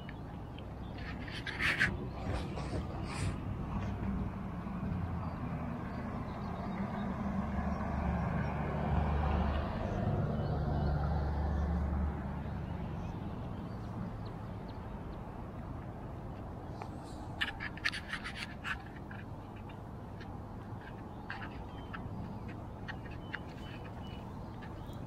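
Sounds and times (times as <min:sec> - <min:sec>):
vehicle engine and tyre rumble: 0:00.0 - 0:25.0.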